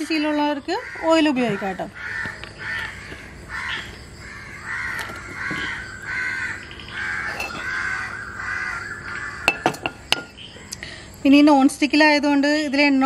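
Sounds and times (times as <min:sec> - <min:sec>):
crow cawing: 0:00.2 - 0:10.9.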